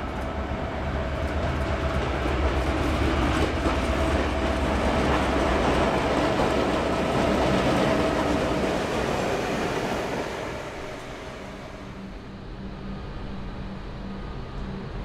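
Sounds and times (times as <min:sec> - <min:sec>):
diesel locomotives passing: 0:00.0 - 0:15.0.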